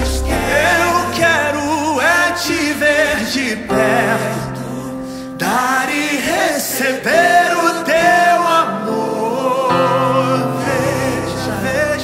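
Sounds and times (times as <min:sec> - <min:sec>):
congregation singing: 0:00.0 - 0:12.0
man singing lead: 0:00.0 - 0:12.0.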